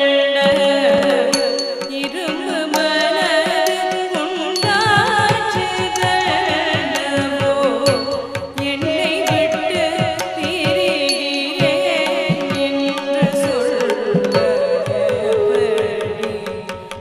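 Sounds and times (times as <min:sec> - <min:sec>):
percussion strikes: 0:00.0 - 0:17.0
person singing ornamented melody: 0:00.0 - 0:17.0.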